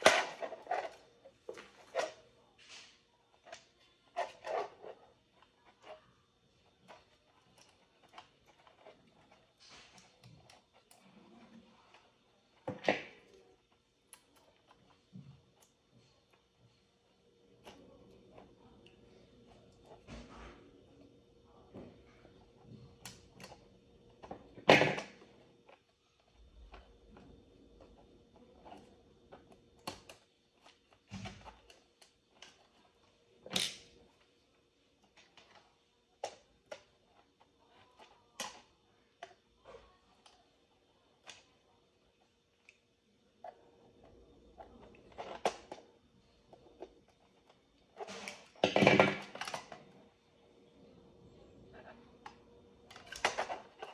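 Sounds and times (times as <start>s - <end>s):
wires and plastic rustling: 0.0s - 53.9s.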